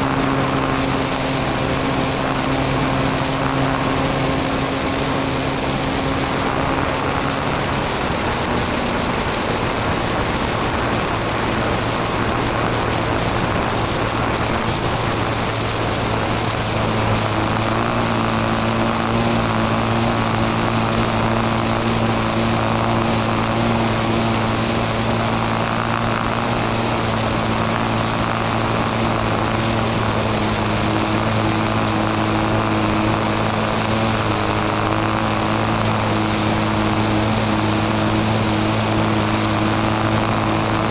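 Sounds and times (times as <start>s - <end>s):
model airplane engine running: 0.0s - 40.9s.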